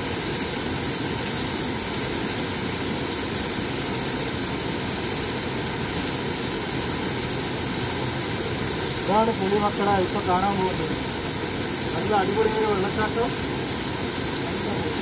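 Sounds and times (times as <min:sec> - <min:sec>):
waterfall pouring onto rock: 0:00.0 - 0:15.0.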